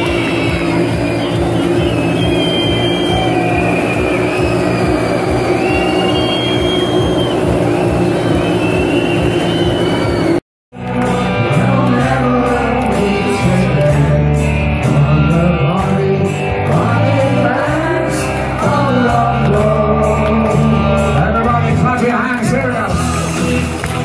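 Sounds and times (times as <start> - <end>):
loud amplified music with singing: 0.0 - 24.0.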